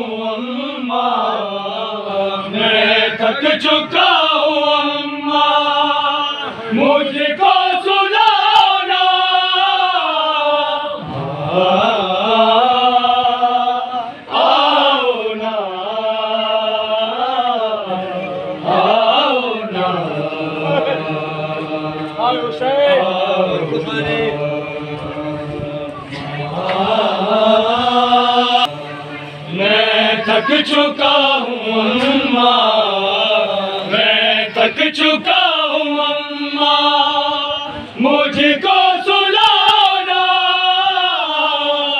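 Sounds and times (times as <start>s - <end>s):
man chanting lament: 0.0s - 41.9s.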